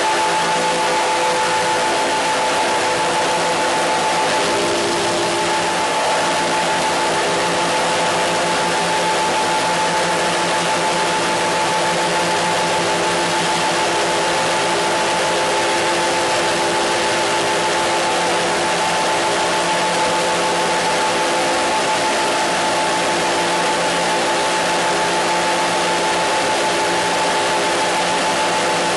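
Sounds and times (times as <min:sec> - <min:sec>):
steady humming tones: 0:00.0 - 0:28.9.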